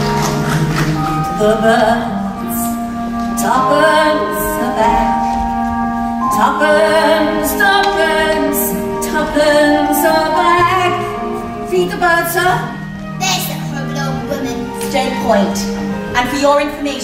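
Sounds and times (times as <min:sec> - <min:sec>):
slow orchestral music: 0:00.0 - 0:17.0.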